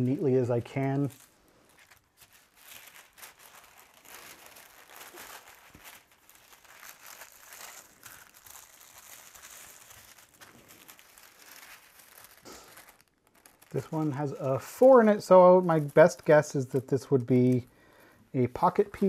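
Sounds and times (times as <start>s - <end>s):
paper rustling and crinkling: 0.0s - 17.7s.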